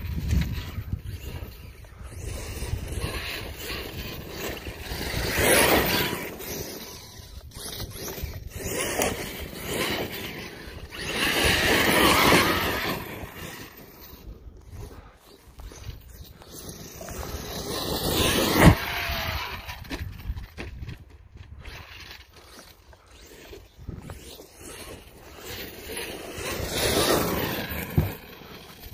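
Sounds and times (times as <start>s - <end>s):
rc truck motor whining: 0.0s - 28.9s.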